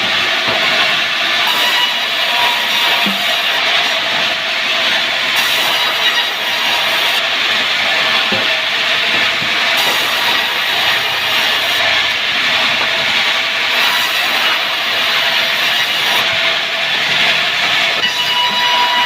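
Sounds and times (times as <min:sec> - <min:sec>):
saw cutting through timber: 0:00.0 - 0:19.0.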